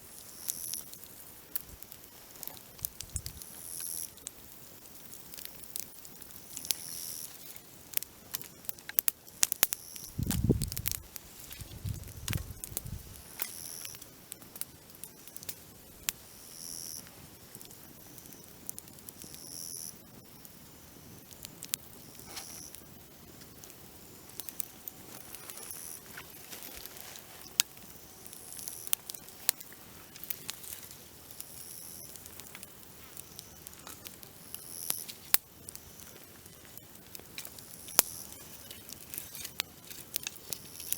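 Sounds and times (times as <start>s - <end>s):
twigs crackling in a campfire: 0.0s - 40.9s
grasshoppers chirring: 0.1s - 40.9s.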